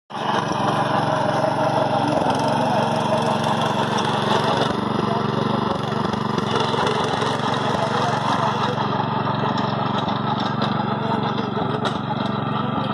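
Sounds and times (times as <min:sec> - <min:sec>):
small engine running under load: 0:00.1 - 0:12.9.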